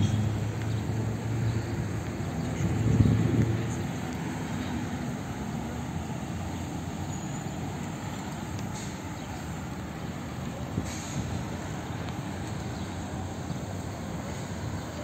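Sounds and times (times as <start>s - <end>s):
passing vehicle engine hum: 0.0s - 15.0s
steady traffic noise: 0.0s - 15.0s.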